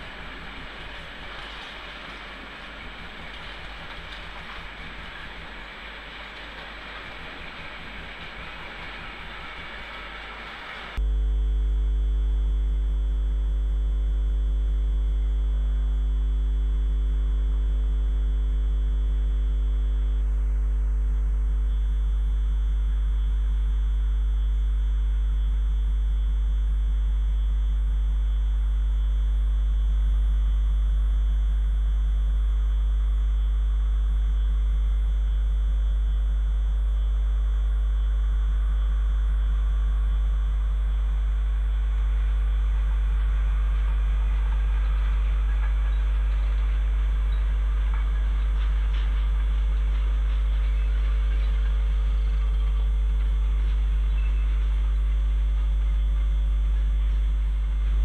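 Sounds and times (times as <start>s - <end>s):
loud low hum: 0.0s - 58.0s.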